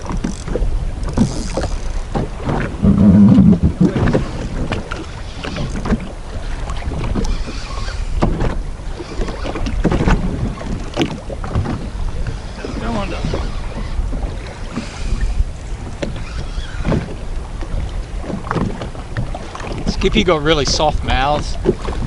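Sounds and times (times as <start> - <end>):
water moving around jet ski: 0.0 - 22.0
wind buffeting microphone: 0.0 - 22.0.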